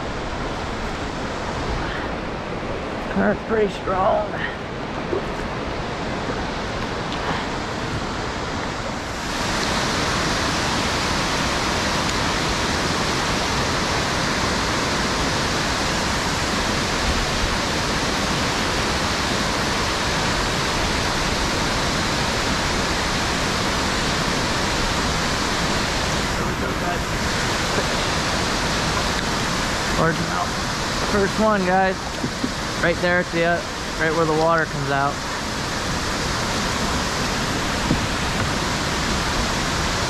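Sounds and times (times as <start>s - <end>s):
water rushing over dam spillway: 0.0s - 40.0s.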